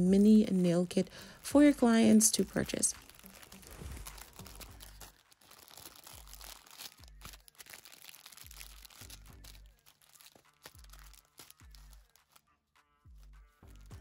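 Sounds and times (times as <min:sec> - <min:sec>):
plastic packaging crinkling and tearing: 0:00.1 - 0:12.4.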